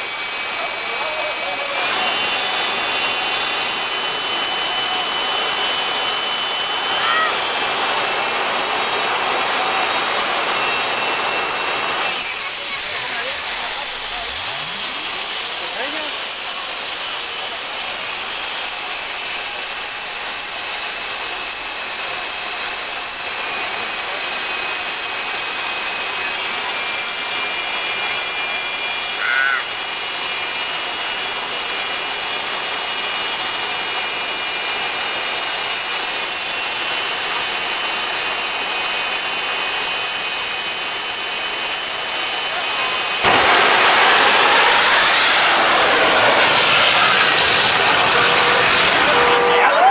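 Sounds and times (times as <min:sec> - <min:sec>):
jet turbine roaring rush: 0:00.0 - 0:49.9
jet turbine whine: 0:00.0 - 0:49.9.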